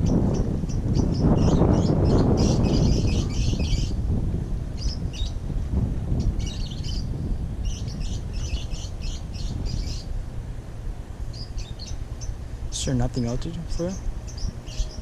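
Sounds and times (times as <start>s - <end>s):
small birds chirping: 0.0s - 4.0s, 4.8s - 5.4s, 6.2s - 10.2s, 11.3s - 15.0s
low rumbling noise: 0.0s - 15.0s.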